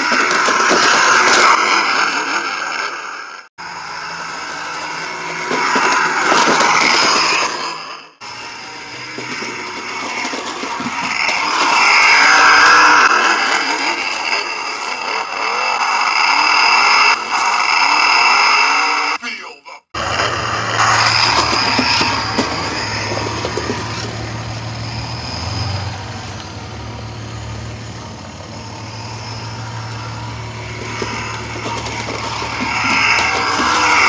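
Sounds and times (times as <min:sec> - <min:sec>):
rc truck motor whining: 0:00.0 - 0:19.2, 0:20.0 - 0:34.0.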